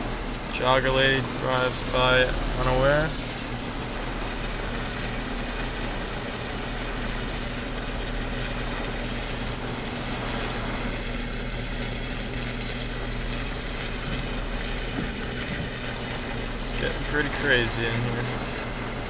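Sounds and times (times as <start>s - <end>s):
low electrical hum: 0.0s - 19.0s
power line arcing hiss: 0.0s - 19.0s.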